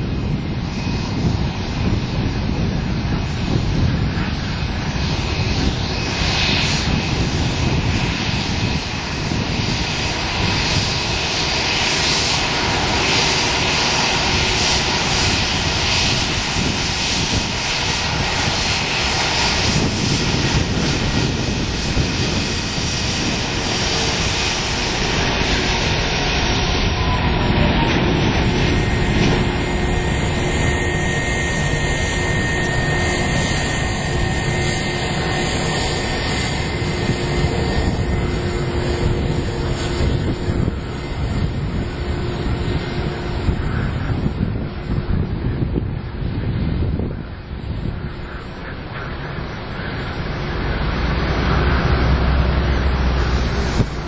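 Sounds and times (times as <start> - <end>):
jet engines at take-off thrust: 0.0 - 54.0.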